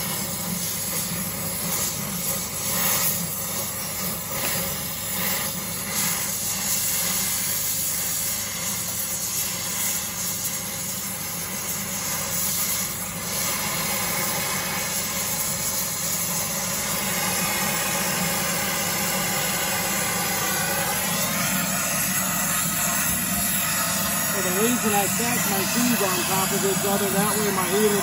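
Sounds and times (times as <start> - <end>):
welding torch flame hissing: 0.0 - 28.0.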